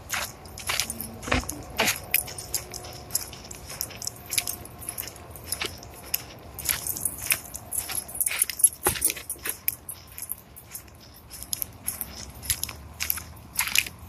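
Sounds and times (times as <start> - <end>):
footsteps on gravel: 0.0 - 14.0.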